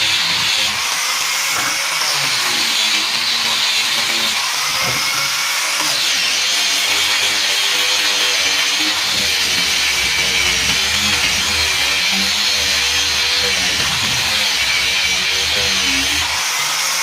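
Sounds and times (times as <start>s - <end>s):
power tool whining on wood: 0.0s - 17.0s.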